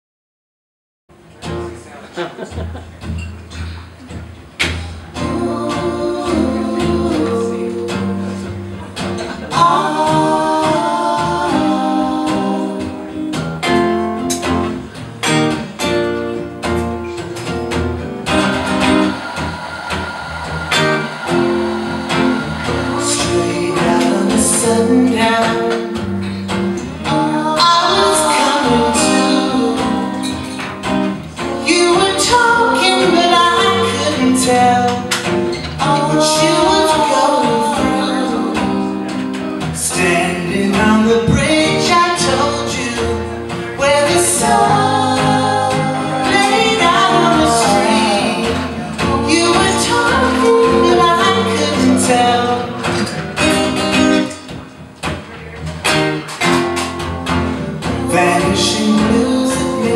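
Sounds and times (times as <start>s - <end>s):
acoustic folk music: 1.1s - 59.9s
acoustic guitars strumming: 1.1s - 59.9s.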